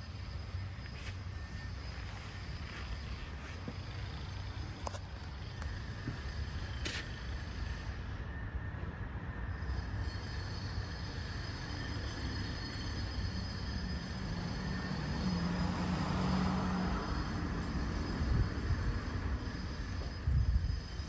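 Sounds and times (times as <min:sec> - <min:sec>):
distant engine hum: 0:00.0 - 0:21.0.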